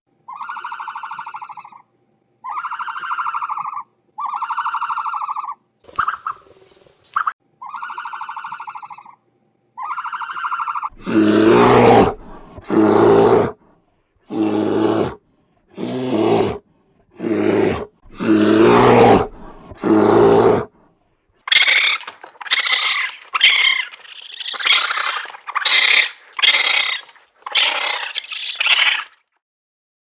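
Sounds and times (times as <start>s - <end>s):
animal calls: 0.3s - 6.5s, 7.2s - 9.2s, 9.8s - 13.6s, 14.3s - 15.2s, 15.8s - 16.6s, 17.2s - 20.7s, 21.5s - 29.2s.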